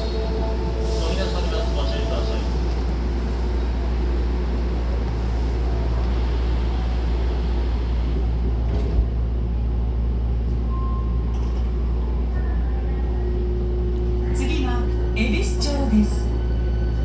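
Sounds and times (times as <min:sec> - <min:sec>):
train wheels rumbling in tunnel: 0:00.0 - 0:17.0.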